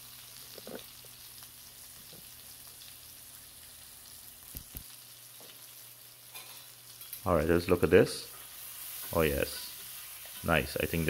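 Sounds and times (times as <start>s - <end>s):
fish sizzling in a skillet: 0.0s - 11.0s.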